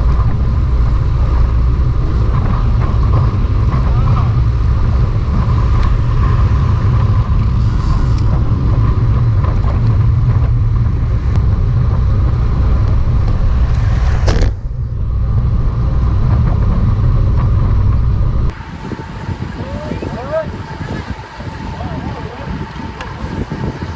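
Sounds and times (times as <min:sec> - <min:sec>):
steady hum: 0:00.0 - 0:23.9
wind rumble on microphone: 0:00.0 - 0:23.9.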